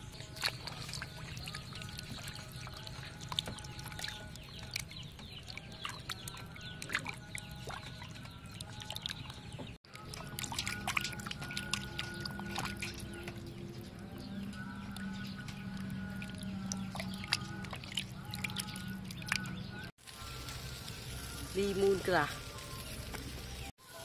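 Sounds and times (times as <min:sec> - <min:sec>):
water dripping: 0:00.0 - 0:20.7
water splashing and sloshing: 0:00.0 - 0:23.7.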